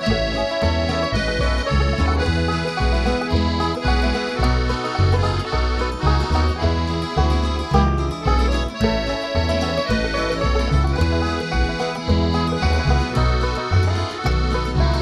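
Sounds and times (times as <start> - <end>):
accordion melody: 0.0 - 15.0
string bass notes: 0.0 - 15.0.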